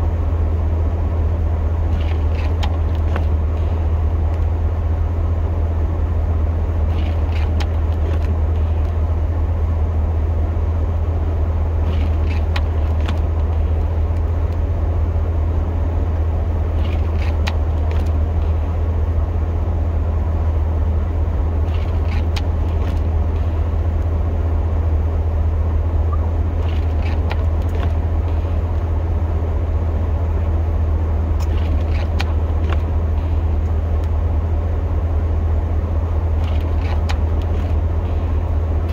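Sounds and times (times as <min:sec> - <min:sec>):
pickup truck engine idling: 0:00.0 - 0:38.9.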